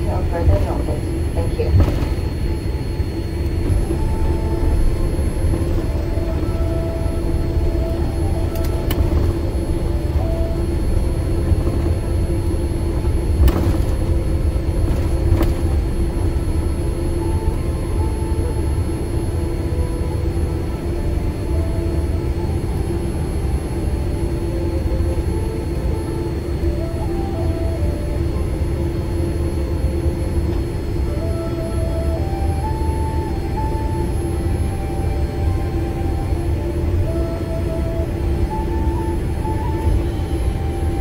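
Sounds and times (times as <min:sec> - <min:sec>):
aircraft cabin rumble and hum: 0:00.0 - 0:41.0.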